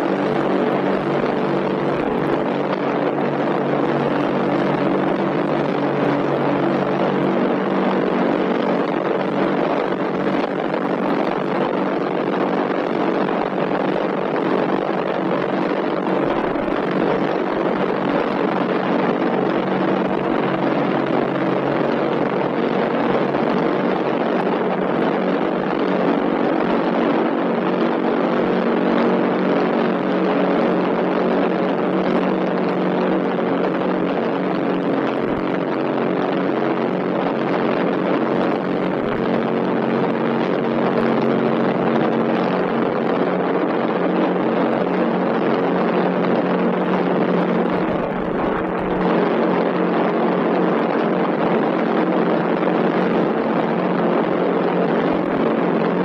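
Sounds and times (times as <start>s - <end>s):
loud mechanical drone: 0.0s - 56.0s
noisy hiss: 0.0s - 56.0s.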